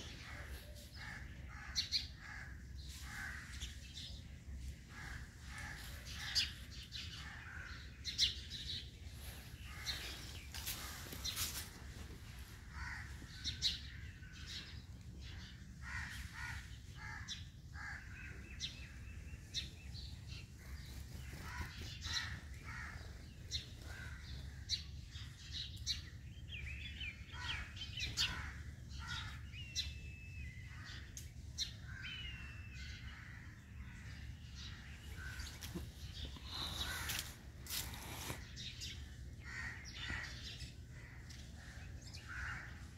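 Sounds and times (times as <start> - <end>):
birds calling harshly: 0.0 - 42.9.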